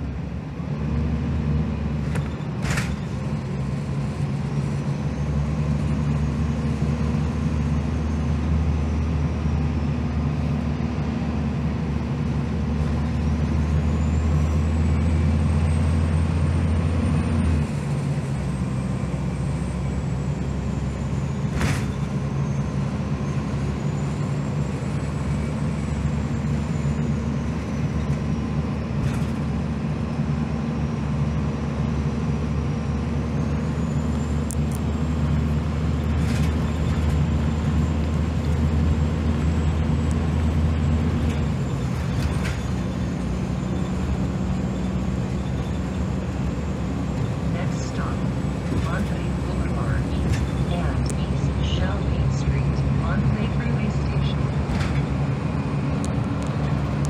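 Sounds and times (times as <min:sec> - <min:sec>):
bus diesel engine drone: 0:00.0 - 0:57.0
road noise: 0:00.0 - 0:57.0.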